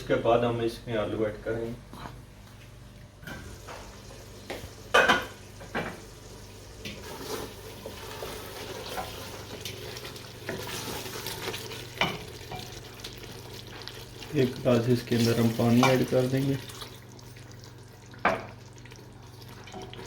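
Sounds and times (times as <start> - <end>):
meat sizzling in a pot: 3.4 - 20.0.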